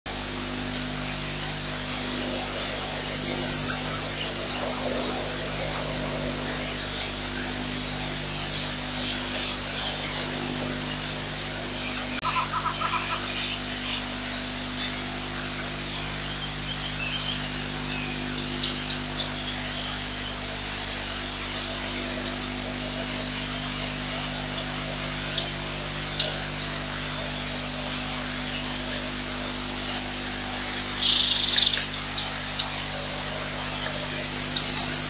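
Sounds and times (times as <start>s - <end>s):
low hum with hiss: 0.1s - 35.0s
pulsing chirps: 0.8s - 20.6s, 21.6s - 35.0s.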